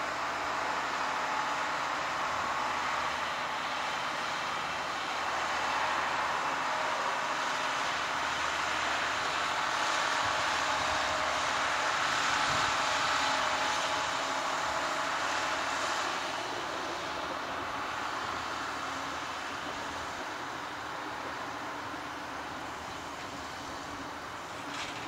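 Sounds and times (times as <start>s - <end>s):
diesel railcars running past: 0.0s - 25.0s.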